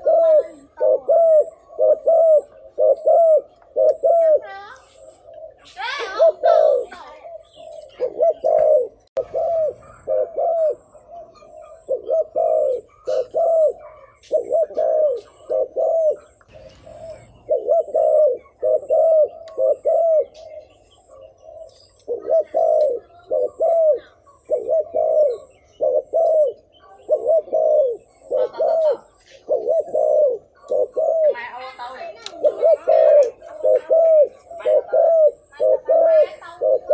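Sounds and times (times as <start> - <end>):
dove cooing rapidly: 0.0 - 36.9.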